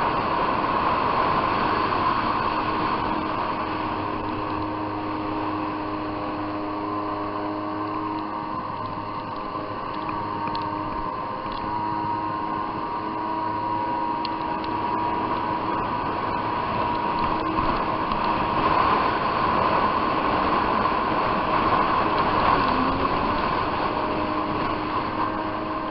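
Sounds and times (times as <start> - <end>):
jet ski engine running: 0.0 - 25.9
water and wind hiss: 0.0 - 25.9.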